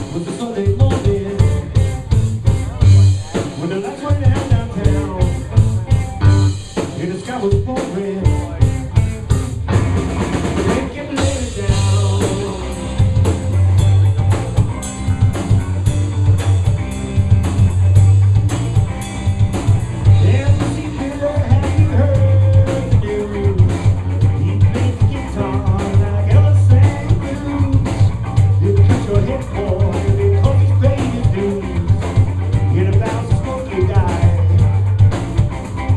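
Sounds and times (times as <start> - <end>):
bass guitar: 0.0 - 35.9
drum kit with rimshots: 0.0 - 35.9
electric guitar: 0.0 - 35.9.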